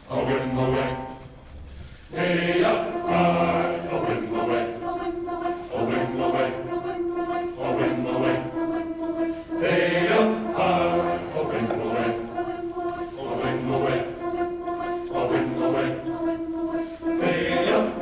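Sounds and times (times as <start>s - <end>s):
choir singing in harmony: 0.0s - 18.0s.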